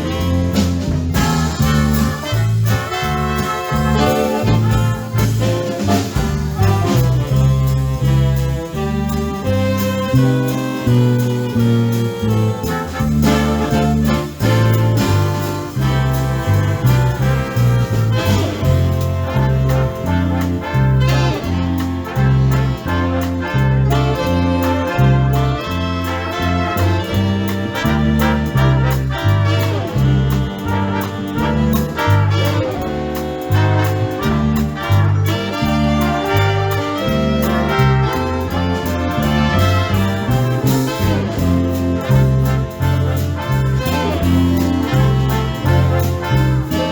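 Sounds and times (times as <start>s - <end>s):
swing big band playing: 0.0s - 46.9s.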